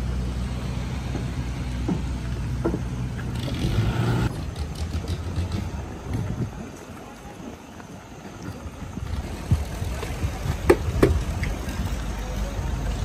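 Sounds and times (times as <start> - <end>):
motor engine rumbling: 0.0 - 13.0.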